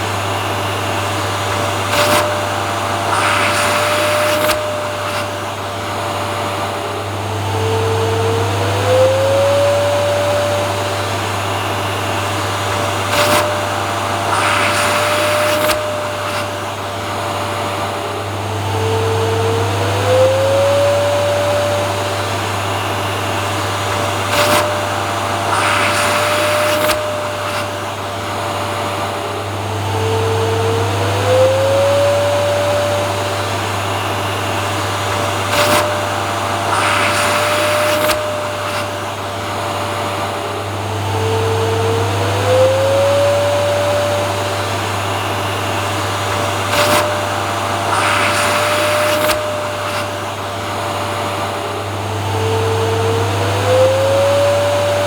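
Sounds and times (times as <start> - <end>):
hissing surges: 0.0 - 7.0, 7.7 - 18.2, 19.2 - 29.4, 30.3 - 51.9
vacuum cleaner running: 0.0 - 55.0.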